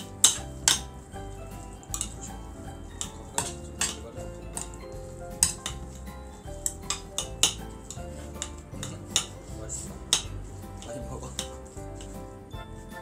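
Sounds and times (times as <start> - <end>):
spoons clinking on dishes: 0.0 - 9.5, 10.1 - 12.1.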